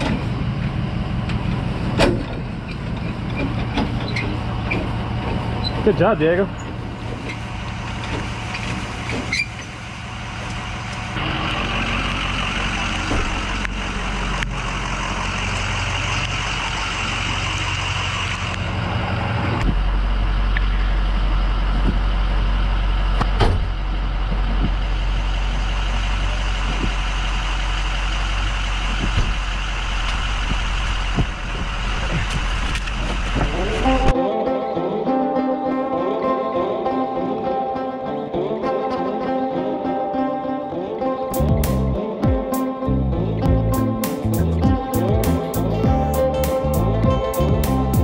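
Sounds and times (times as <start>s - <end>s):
truck engine running: 0.0s - 34.1s, 41.3s - 48.0s.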